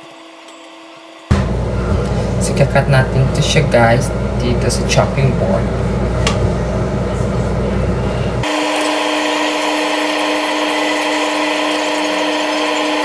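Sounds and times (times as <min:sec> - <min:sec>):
electric motor hum: 0:00.0 - 0:13.0.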